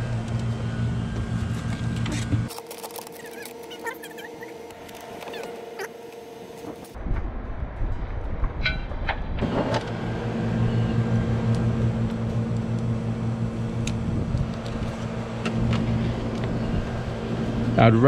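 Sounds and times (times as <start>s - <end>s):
machine humming: 0.0s - 8.5s, 9.4s - 18.0s.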